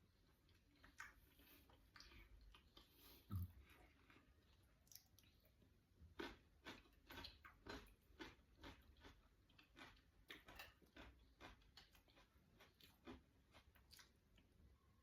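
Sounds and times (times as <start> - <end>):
person chewing with wet smacking: 0.0 - 14.8.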